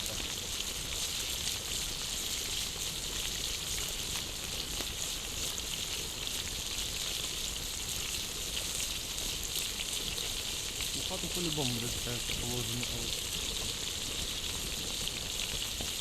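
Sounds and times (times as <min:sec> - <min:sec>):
food sizzling over campfire: 0:00.0 - 0:16.0.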